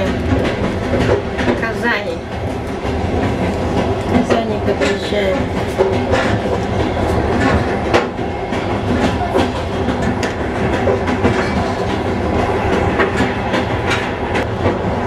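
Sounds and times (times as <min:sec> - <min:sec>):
track clicks and knocks: 0:00.0 - 0:15.0
train wheels rumbling on rails: 0:00.0 - 0:15.0.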